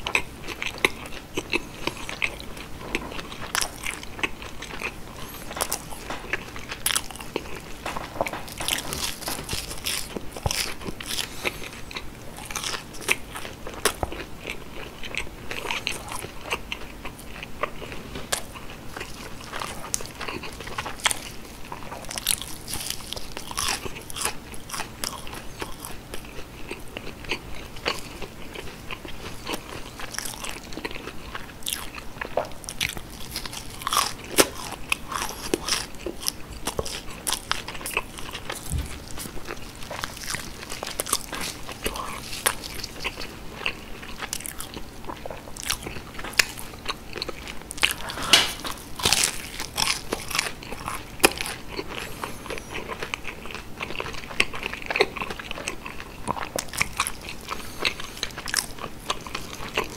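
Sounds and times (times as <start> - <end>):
crunching and chewing fried food: 0.0 - 59.9.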